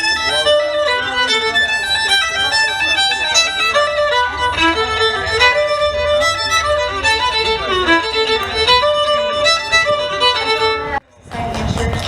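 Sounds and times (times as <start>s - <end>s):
violin playing quick notes: 0.0s - 11.0s.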